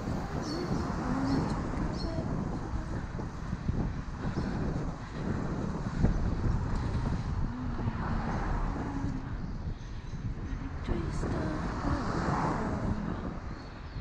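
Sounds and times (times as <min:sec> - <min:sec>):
street traffic: 0:00.0 - 0:14.0
wind rumble on microphone: 0:00.0 - 0:14.0.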